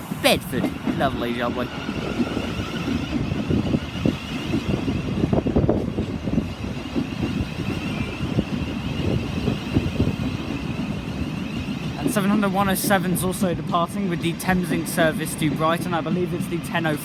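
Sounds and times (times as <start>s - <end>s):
electric train rumbling and whining: 0.0s - 17.0s.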